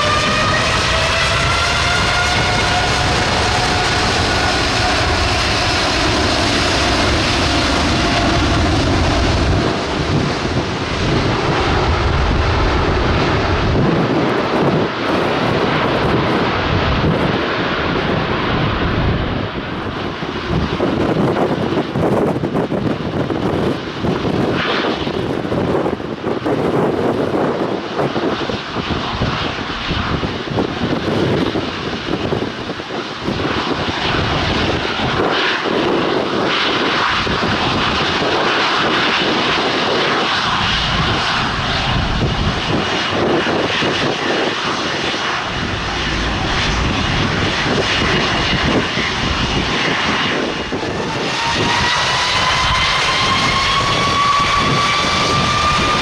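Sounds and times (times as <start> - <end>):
jet engines running: 0.0 - 56.0
rising engine whine: 0.0 - 56.0.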